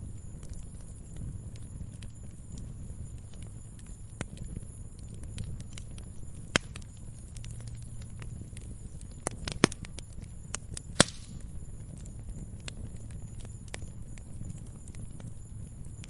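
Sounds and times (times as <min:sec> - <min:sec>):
logs crackling in fireplace: 0:00.0 - 0:16.0
low rumble of flame: 0:00.0 - 0:16.0
sharp pops of fire: 0:00.0 - 0:16.0.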